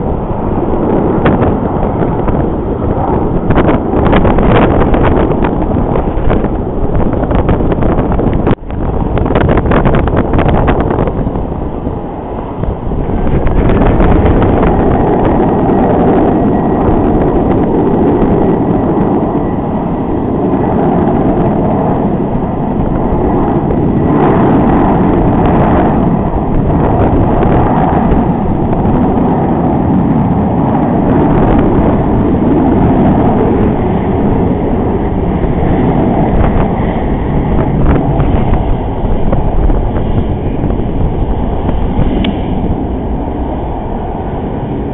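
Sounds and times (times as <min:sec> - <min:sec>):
jet engines rumbling: 0:00.0 - 0:44.9
wind buffeting microphone: 0:00.0 - 0:44.9.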